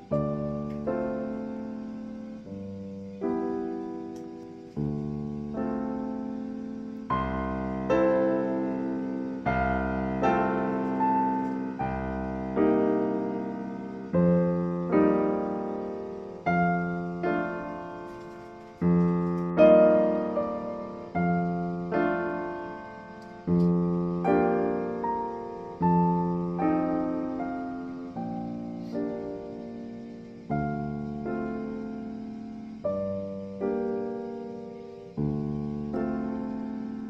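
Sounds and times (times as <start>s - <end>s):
slow gentle piano music: 0.0s - 37.0s.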